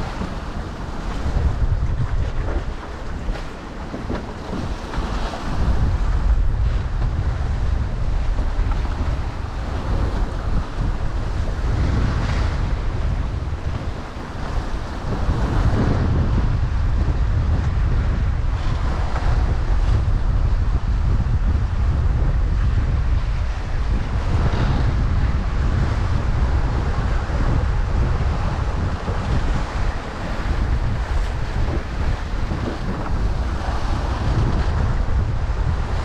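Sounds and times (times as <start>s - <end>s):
water rushing along hull: 0.0s - 36.0s
wind buffeting microphone: 0.0s - 36.0s.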